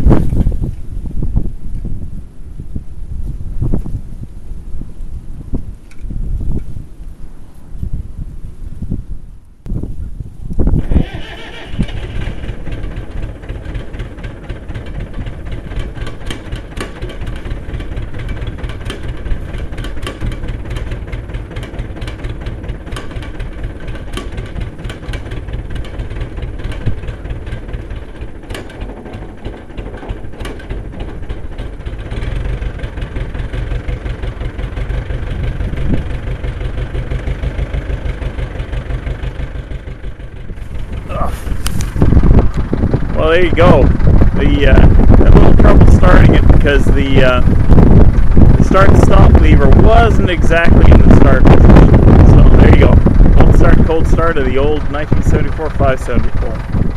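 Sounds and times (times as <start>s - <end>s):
diesel tractor engine idling: 10.7s - 56.9s.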